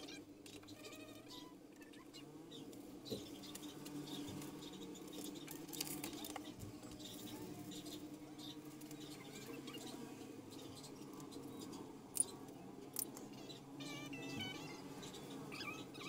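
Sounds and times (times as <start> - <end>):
small scattered ticks: 0.0 - 16.0.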